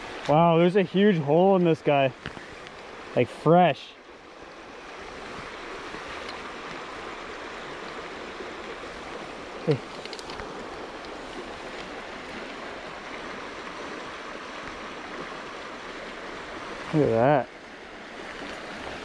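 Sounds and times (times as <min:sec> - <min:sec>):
creek water running over gravel: 0:00.0 - 0:19.0.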